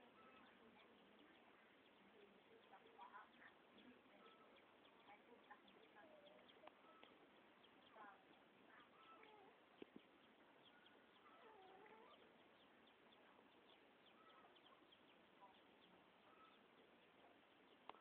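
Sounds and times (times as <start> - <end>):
faint bird chirps: 0.0 - 18.0
swooping bird calls: 0.0 - 18.0.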